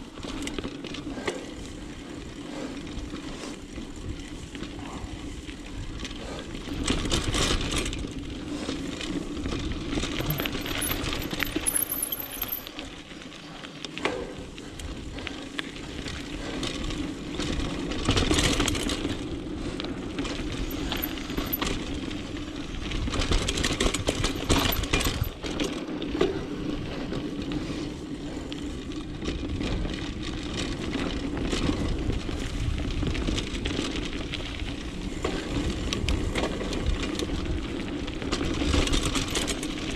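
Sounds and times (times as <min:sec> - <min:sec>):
bike chain rattling: 0:00.0 - 0:39.9.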